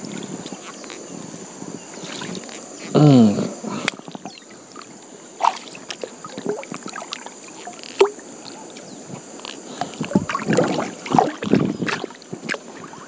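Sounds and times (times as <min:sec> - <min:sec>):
water splashing and sloshing: 0:00.0 - 0:02.8, 0:03.7 - 0:13.0.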